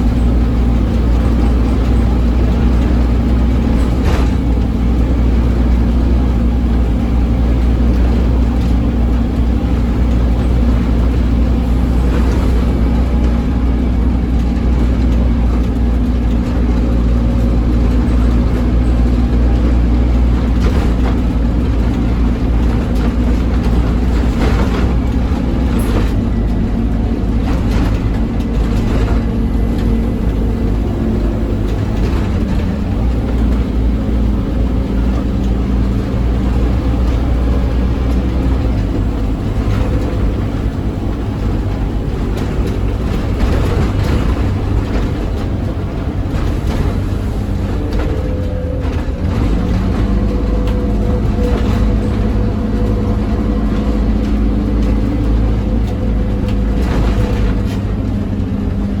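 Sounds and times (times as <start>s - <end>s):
bus diesel engine running hard: 0.0s - 59.0s.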